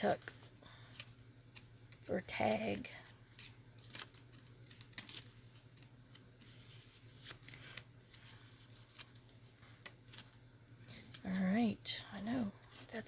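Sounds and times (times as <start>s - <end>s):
low steady hum: 0.0s - 13.0s
paper rustling: 0.0s - 13.0s.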